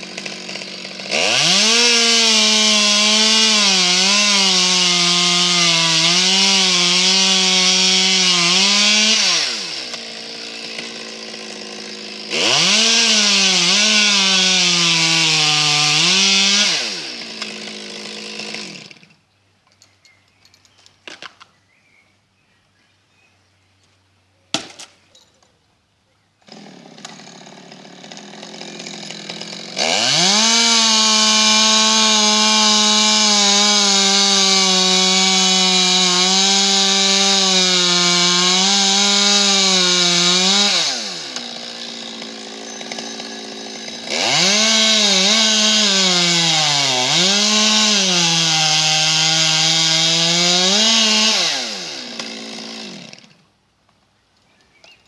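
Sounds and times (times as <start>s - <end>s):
chainsaw cutting tree trunk: 0.0s - 19.2s, 26.4s - 53.6s.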